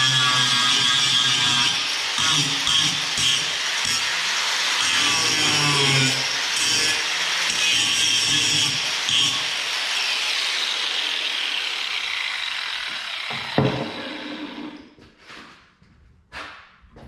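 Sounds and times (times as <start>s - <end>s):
bandsaw cutting: 0.0s - 14.9s.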